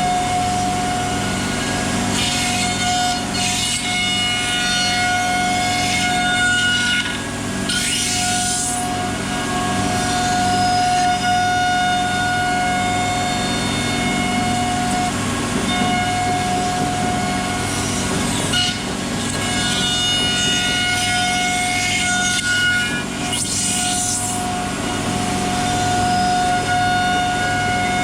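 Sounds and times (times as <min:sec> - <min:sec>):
cnc router cutting wood: 0:00.0 - 0:28.0.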